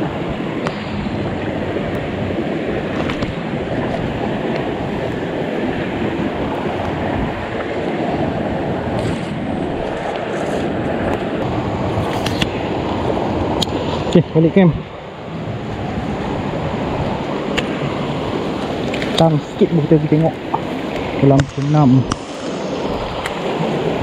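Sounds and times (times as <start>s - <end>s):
river flowing: 0.0s - 24.0s.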